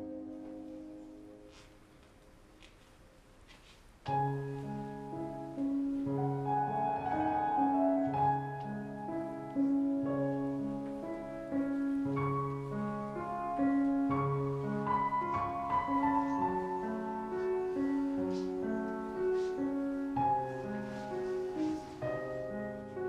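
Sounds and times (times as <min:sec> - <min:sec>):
slow quiet piano music: 0:00.0 - 0:23.0.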